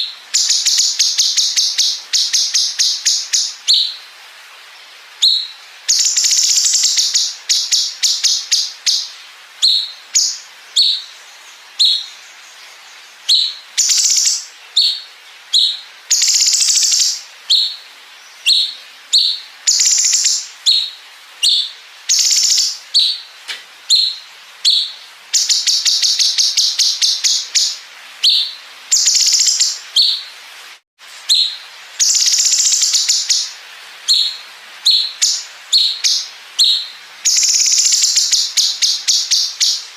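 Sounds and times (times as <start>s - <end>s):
bird chirping and trilling: 0.0s - 4.1s, 5.2s - 30.3s, 31.2s - 39.9s.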